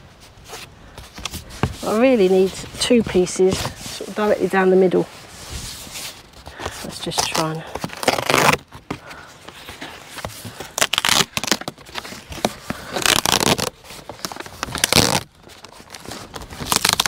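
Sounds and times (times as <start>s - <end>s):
cardboard scraping and crinkling: 0.2s - 17.0s.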